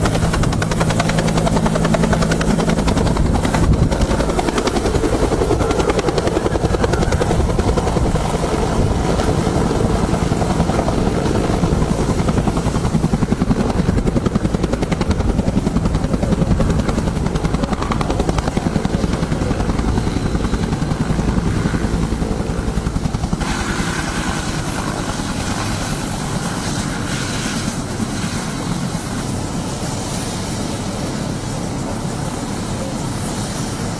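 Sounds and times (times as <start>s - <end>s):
helicopter rotor chopping: 0.0s - 33.9s.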